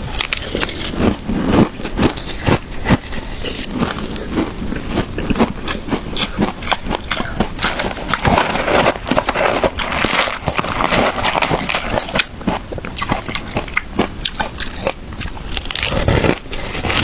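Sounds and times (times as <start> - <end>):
crunching ice being chewed: 0.0 - 17.0.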